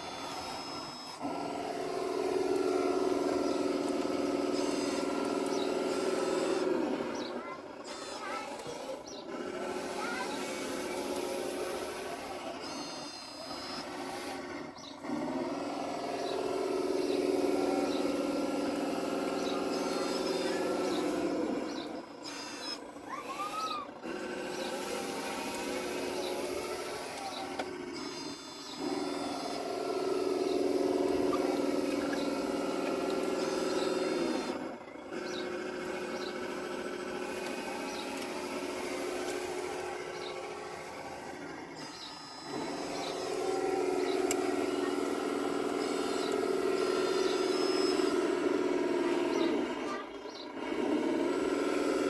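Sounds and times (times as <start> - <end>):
toy motors whining: 0.0 - 52.0.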